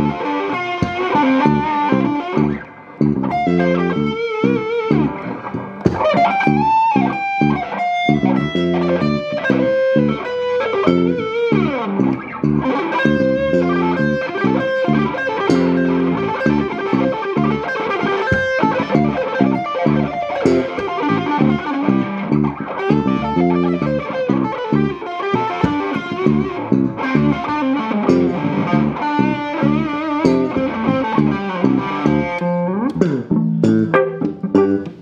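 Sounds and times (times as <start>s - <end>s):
electric bass line: 0.0s - 35.0s
electric guitar playing: 0.0s - 35.0s.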